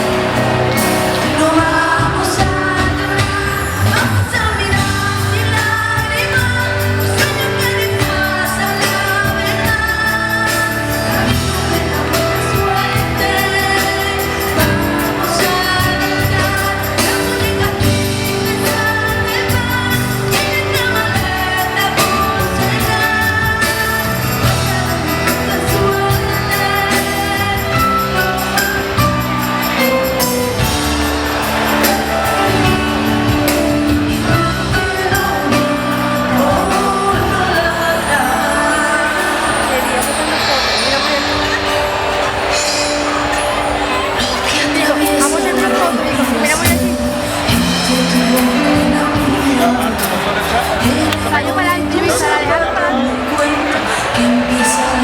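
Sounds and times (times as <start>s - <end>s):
drum beat: 0.0s - 38.4s, 39.2s - 53.7s
woman singing: 0.0s - 42.1s, 43.9s - 55.0s
live pop band: 0.0s - 55.0s.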